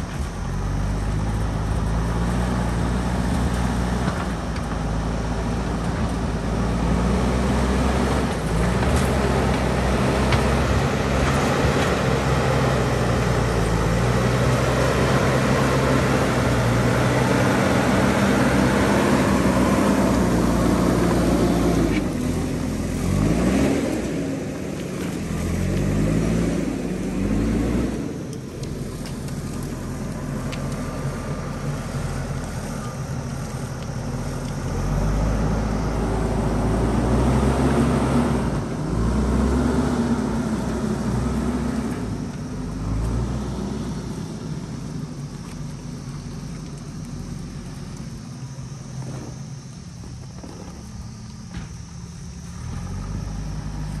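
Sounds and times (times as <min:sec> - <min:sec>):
diesel engine working hard: 0:00.0 - 0:54.0.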